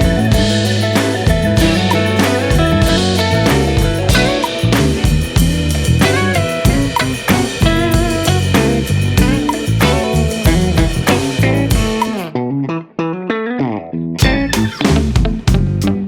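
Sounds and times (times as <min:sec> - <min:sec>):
rock music with drums bass guitar: 0:00.0 - 0:12.4, 0:14.2 - 0:16.0.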